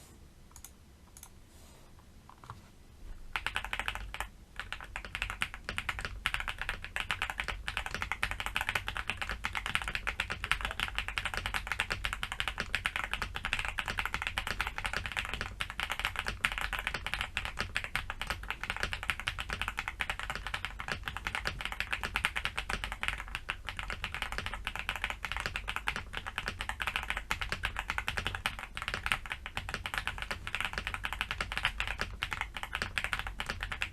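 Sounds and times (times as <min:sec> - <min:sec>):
fast typing on mechanical keyboard: 0:03.3 - 0:33.9.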